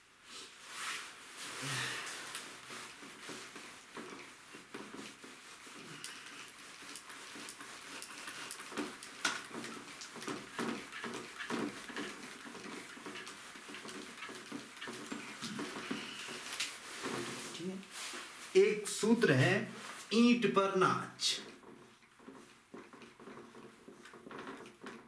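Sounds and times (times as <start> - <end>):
cloth wiping a whiteboard: 0.2 - 25.0.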